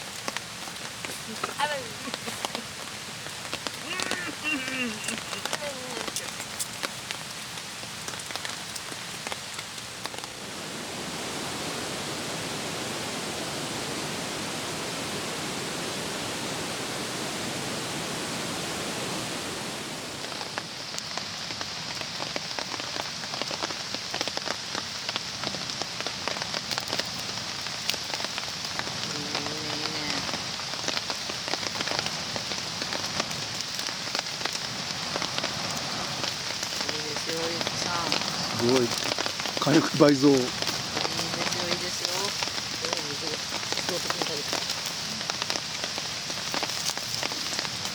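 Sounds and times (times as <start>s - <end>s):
rain falling on a tarp: 0.0s - 47.9s.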